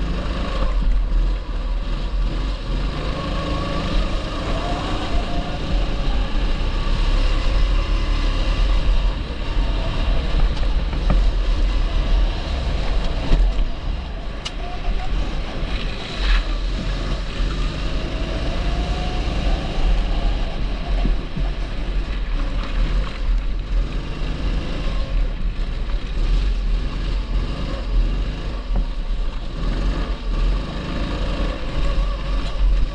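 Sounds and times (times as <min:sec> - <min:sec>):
heavy low rumble: 0:00.0 - 0:27.9
kart engine running hard: 0:00.0 - 0:32.9.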